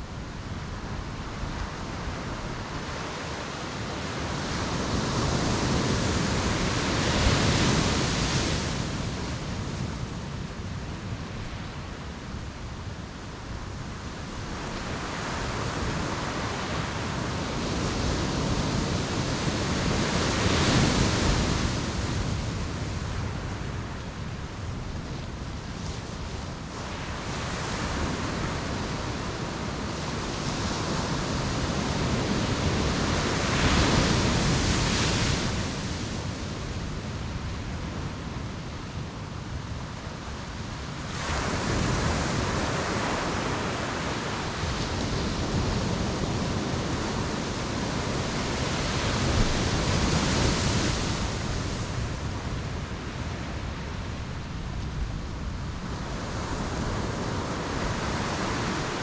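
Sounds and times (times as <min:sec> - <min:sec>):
surf washing on beach: 0:00.0 - 0:59.0.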